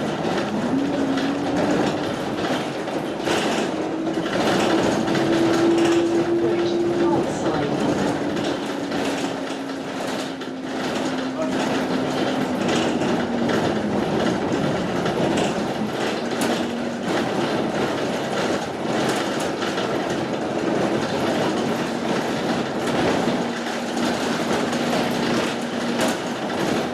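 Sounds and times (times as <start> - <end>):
clattering: 0.0 - 26.9
traffic rumble: 0.0 - 26.9.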